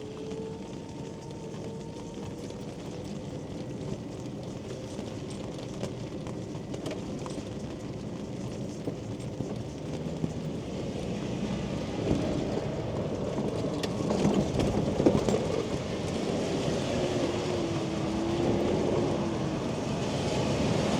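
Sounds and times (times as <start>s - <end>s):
wheels rumbling over pavement: 0.0s - 20.9s.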